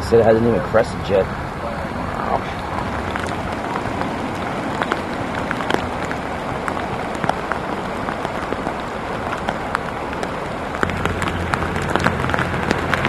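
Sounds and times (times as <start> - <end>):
raindrops hitting close by: 0.0 - 13.0
steady rain: 0.0 - 13.0.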